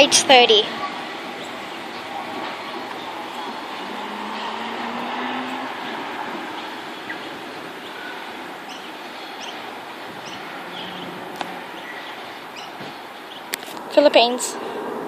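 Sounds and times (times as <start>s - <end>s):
small birds chirping: 0.0s - 14.6s
electric train passing: 0.0s - 15.0s.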